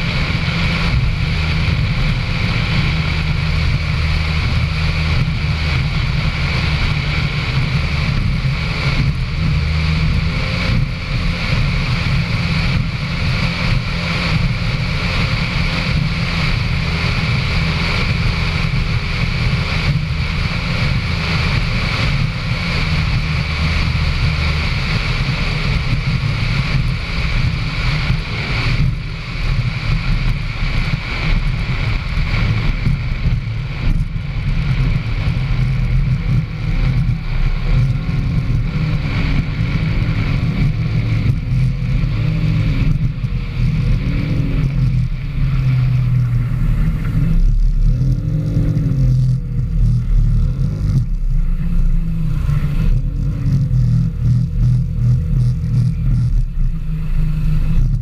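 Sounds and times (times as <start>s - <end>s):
heavy boat engine drone: 0.0s - 58.0s.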